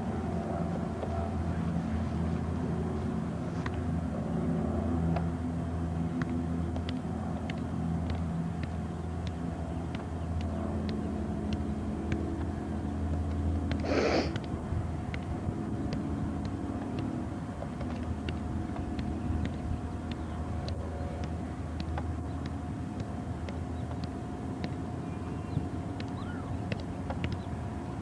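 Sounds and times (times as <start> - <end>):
low rumbling hum: 0.0 - 28.0.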